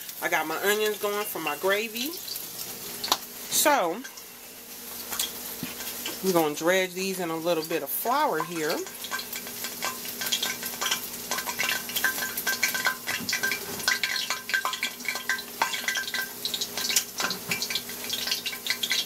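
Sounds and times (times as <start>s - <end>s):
food sizzling in hot grease: 0.0s - 19.0s.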